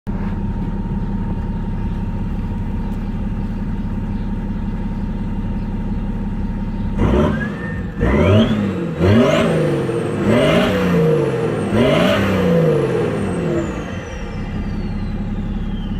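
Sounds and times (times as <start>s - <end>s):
diesel engine idling and revving: 0.1s - 15.9s.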